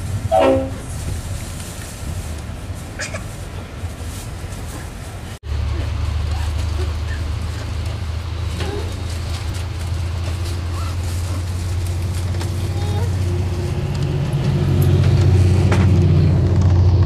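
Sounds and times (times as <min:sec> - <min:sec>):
diesel locomotive passing alongside: 0:00.0 - 0:17.0
diesel train rumble inside carriage: 0:00.0 - 0:17.0.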